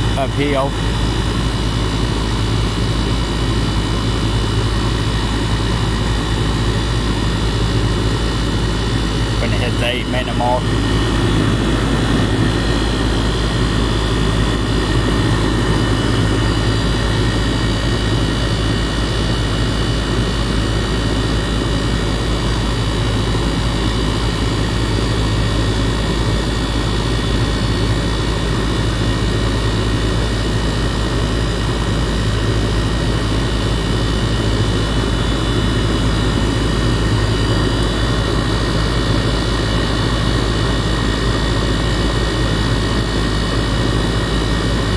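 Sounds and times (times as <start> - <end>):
compressor humming: 0.0 - 44.9
condenser fan rushing: 0.0 - 44.9.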